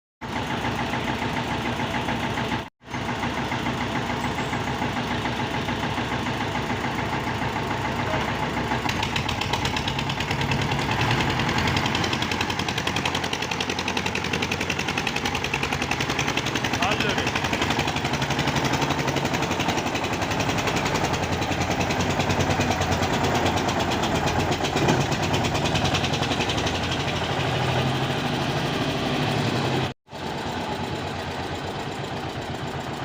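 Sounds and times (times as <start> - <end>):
diesel tractor engine knocking: 0.2 - 33.0.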